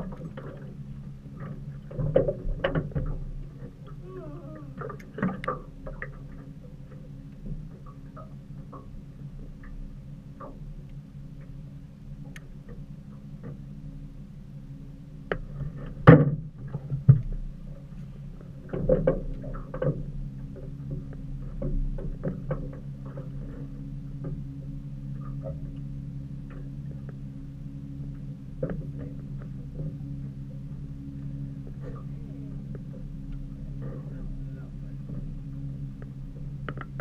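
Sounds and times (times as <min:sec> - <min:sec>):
low motor hum: 0:00.0 - 0:37.0.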